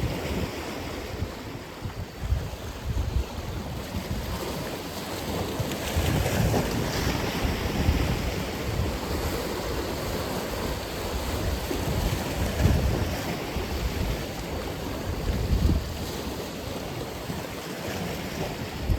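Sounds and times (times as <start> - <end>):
surf breaking on shore: 0.0 - 18.9
wind rumble on microphone: 0.0 - 18.9.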